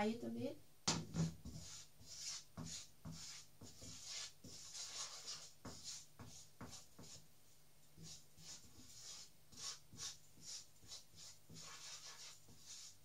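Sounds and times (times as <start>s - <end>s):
wooden spatula scraping frying pan: 1.0s - 7.2s, 8.0s - 13.0s.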